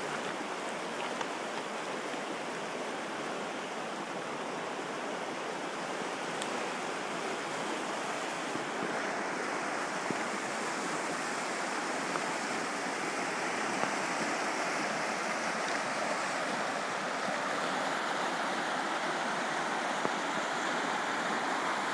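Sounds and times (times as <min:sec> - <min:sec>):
river rushing over rocks: 0:00.0 - 0:21.9.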